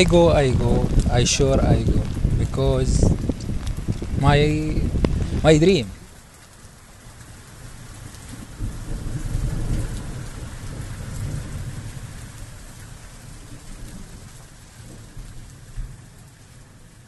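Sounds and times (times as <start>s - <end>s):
low rumble of thunder: 0.0s - 6.2s, 7.2s - 17.0s
steady rain: 0.0s - 17.0s.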